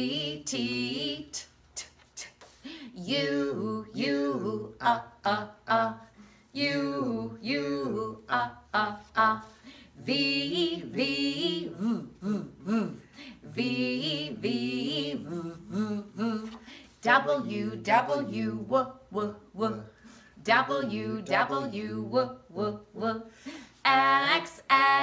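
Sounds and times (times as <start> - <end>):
woman and man singing chant: 0.0 - 1.9, 2.8 - 25.0.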